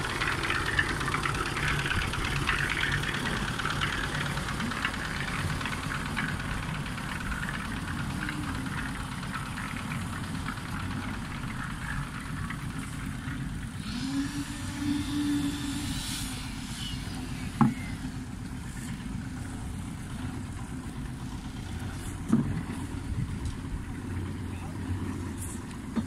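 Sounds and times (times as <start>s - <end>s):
engine rumbling: 0.0s - 26.0s.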